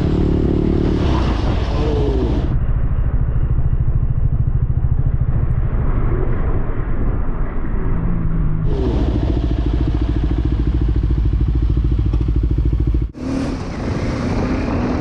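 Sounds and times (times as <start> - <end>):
muffled motorcycle engine running: 0.0 - 13.4.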